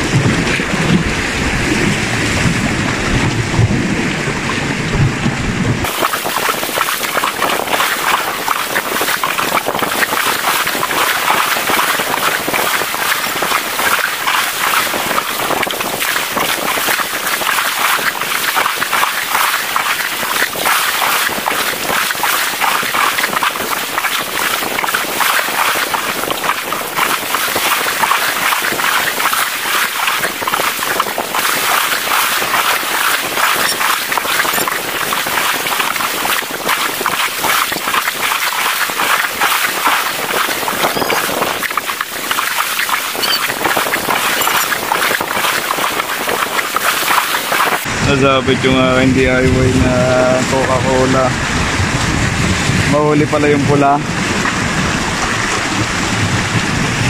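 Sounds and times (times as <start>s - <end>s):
waves splashing over rocks: 0.0s - 48.2s.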